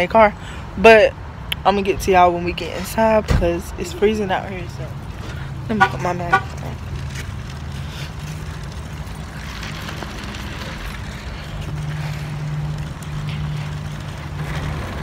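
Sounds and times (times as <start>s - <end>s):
traffic noise: 0.0s - 15.0s
vehicle engine humming: 0.0s - 15.0s.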